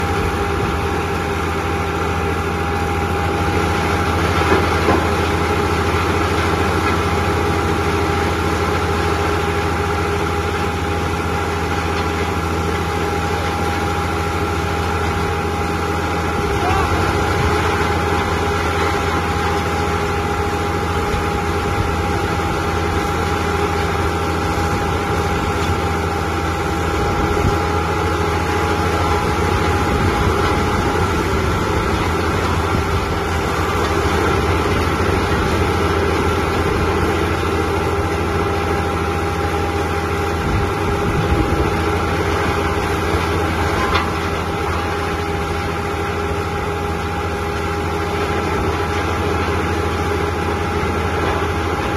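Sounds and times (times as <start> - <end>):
wood chipper diesel engine running: 0.0 - 51.9.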